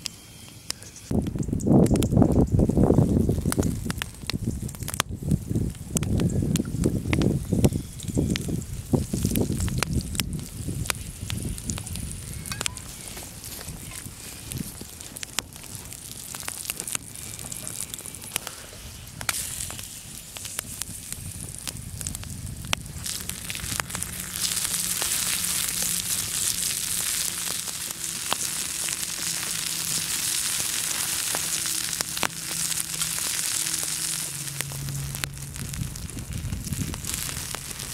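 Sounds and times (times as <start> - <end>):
campfire crackling and popping: 0.0 - 37.9
steak sizzling on hot stone: 2.2 - 37.9.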